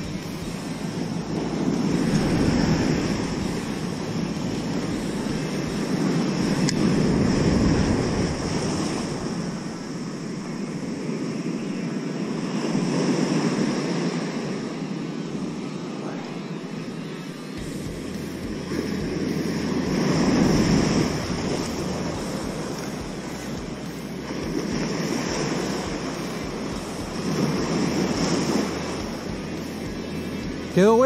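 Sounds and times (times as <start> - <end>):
ocean surf washing ashore: 0.0 - 31.0.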